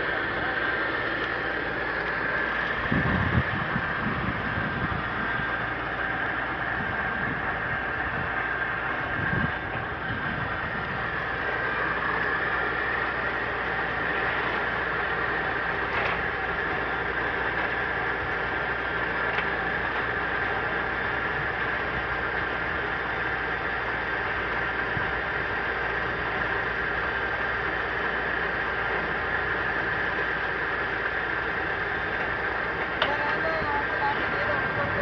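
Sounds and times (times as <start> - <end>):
rebar cutter humming with whine: 0.0 - 35.0.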